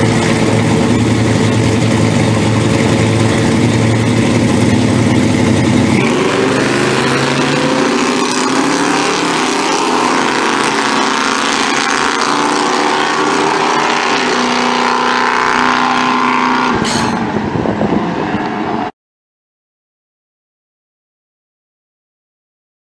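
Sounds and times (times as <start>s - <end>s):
racing car engine at full throttle: 0.0s - 18.9s.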